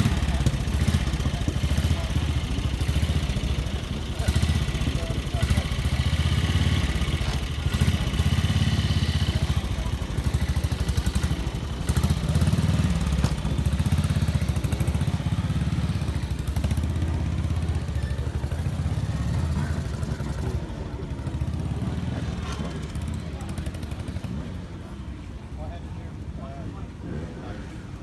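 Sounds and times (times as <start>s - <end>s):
motorcycle engine running: 0.0s - 25.5s.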